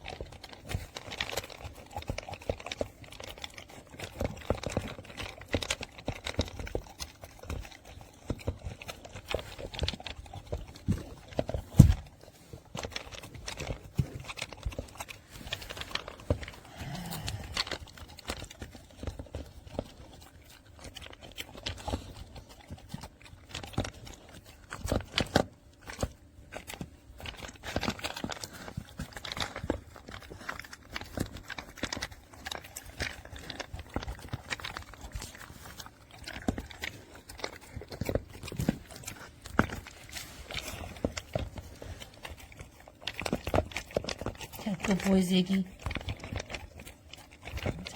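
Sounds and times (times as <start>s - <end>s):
dog eating from bowl clicking: 0.0s - 16.8s, 17.5s - 47.9s.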